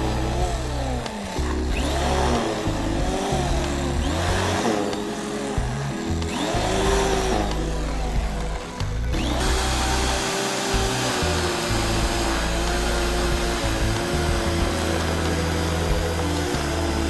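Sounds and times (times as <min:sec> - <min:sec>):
industrial machine hissing and whining: 0:00.0 - 0:17.0
music with heavy bass line: 0:00.0 - 0:17.0.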